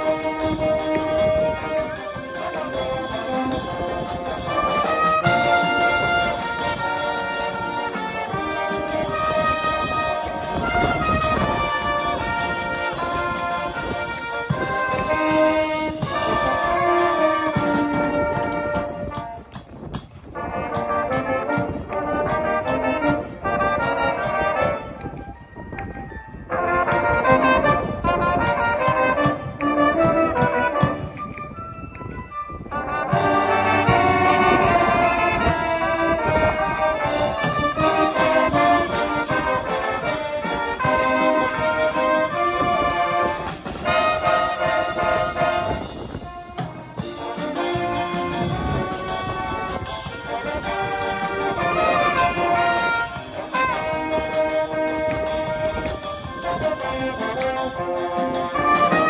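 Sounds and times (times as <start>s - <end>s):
brass band playing: 0.0s - 25.2s, 26.4s - 31.7s, 32.5s - 59.0s.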